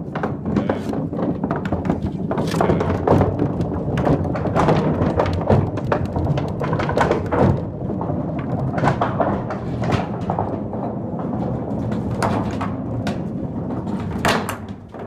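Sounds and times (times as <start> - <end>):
balls knocking on wood: 0.0 - 15.0
balls rolling on wood rumble: 0.0 - 15.0.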